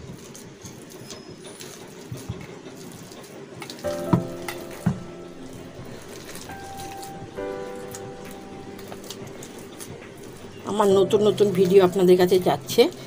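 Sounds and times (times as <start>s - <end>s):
hands mashing wet potato: 0.0s - 13.0s.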